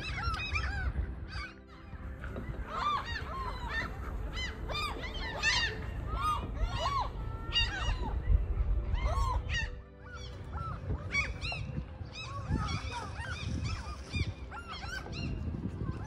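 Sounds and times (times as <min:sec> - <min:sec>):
seagulls calling: 0:00.0 - 0:16.0.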